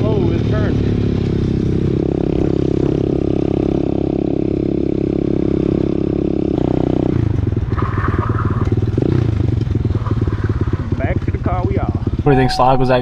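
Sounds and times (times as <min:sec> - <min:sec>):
motorbike engine running: 0:00.0 - 0:12.2.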